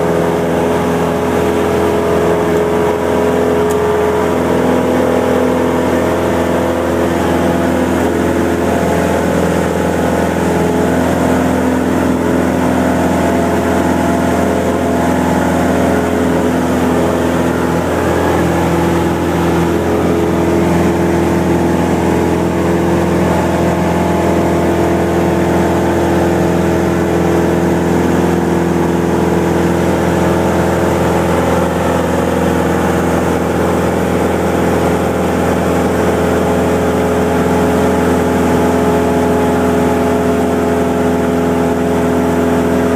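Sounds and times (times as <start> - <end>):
propeller plane engine droning: 0.0 - 42.9.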